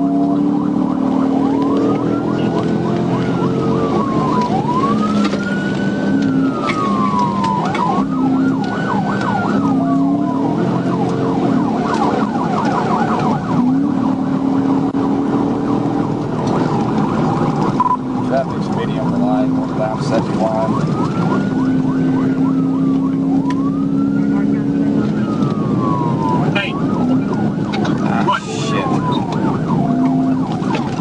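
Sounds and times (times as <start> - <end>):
car engine droning: 0.0 - 31.0
police siren wailing and yelping: 0.0 - 31.0
road noise: 0.0 - 31.0.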